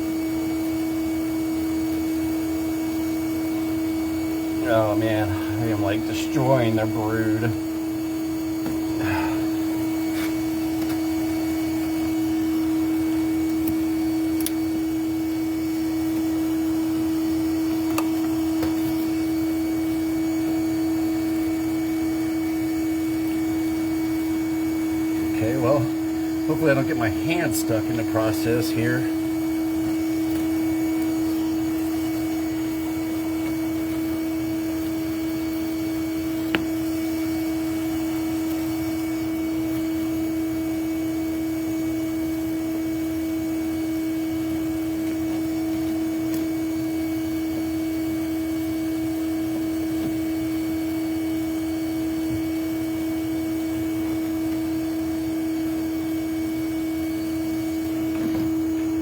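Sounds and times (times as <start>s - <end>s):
vacuum motor hum: 0.0s - 59.0s.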